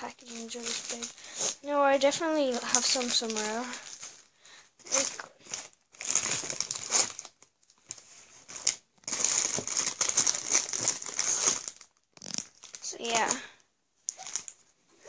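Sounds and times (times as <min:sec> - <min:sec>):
plastic packaging crinkling: 0:00.0 - 0:13.5, 0:14.1 - 0:14.7.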